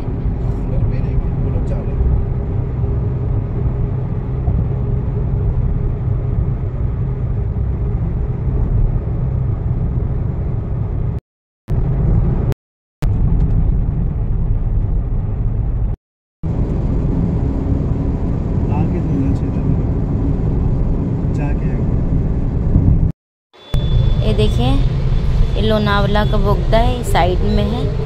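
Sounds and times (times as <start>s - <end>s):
car cabin road and engine noise: 0.0s - 28.0s.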